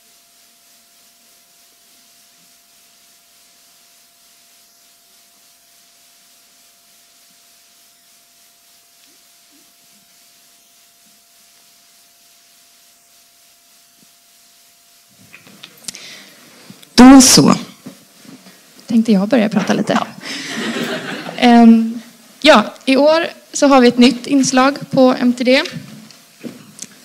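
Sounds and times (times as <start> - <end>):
faint steady hiss: 0.0 - 27.0.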